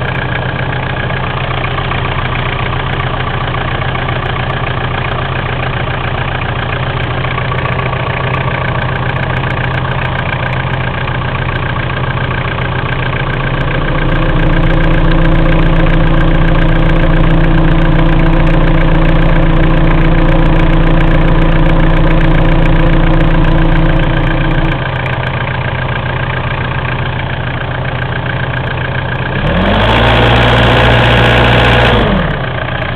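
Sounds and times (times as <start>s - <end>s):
diesel engine idling and revving: 0.0s - 32.9s.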